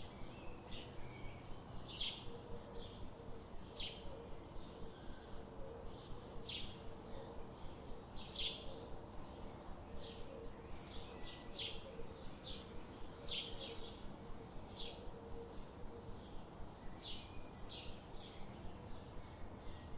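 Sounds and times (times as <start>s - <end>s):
background hiss: 0.0s - 19.9s
songbirds chirping: 0.0s - 19.9s.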